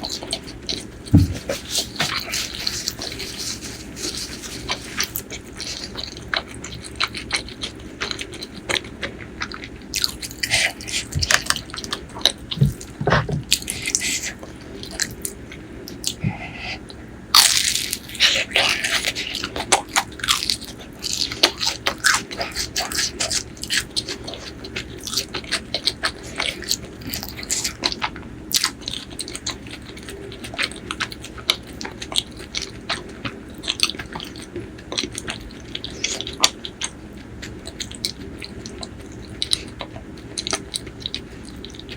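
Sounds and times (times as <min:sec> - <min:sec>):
crunchy chewing of food: 0:00.0 - 0:41.9.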